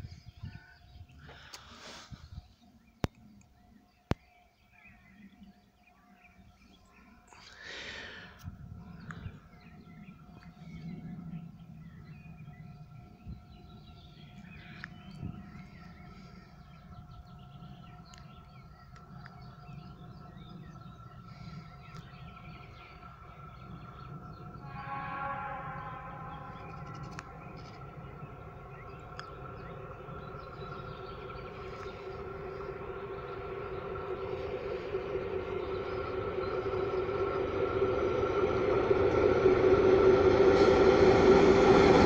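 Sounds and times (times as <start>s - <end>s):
diesel locomotive engine rumble: 0.0s - 2.6s, 6.4s - 42.0s
thin whine: 6.3s - 42.0s.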